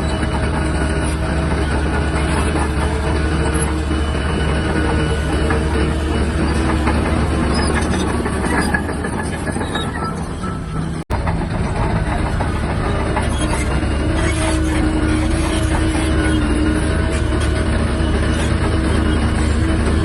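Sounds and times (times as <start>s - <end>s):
bulldozer diesel engine running: 0.0s - 20.0s
steel tracks clattering: 0.0s - 20.0s.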